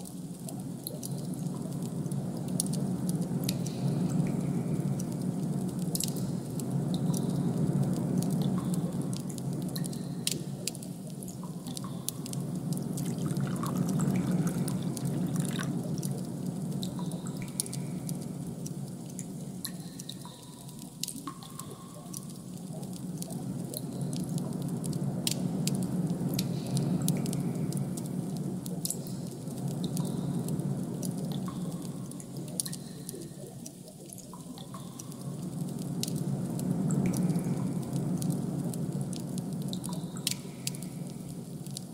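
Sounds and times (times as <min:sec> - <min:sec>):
low ambient drone: 0:00.0 - 0:41.9
sharp dripping clicks: 0:00.0 - 0:41.9.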